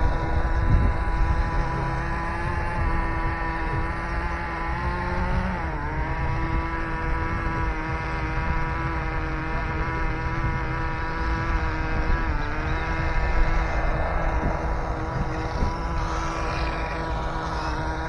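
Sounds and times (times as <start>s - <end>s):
toy car motor running high: 0.0s - 18.0s.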